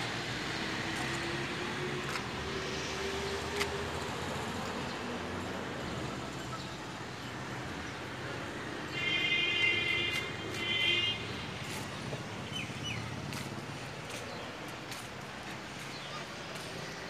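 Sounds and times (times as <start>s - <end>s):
distant road traffic hiss: 0.0s - 17.0s.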